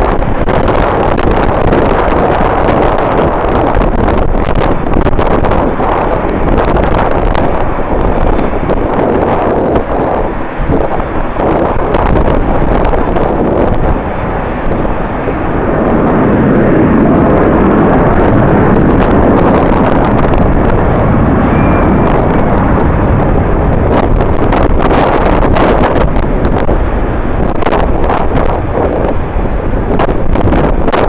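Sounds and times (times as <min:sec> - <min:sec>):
jet airliner engine noise: 0:00.0 - 0:31.0
wind buffeting microphone: 0:00.0 - 0:31.0.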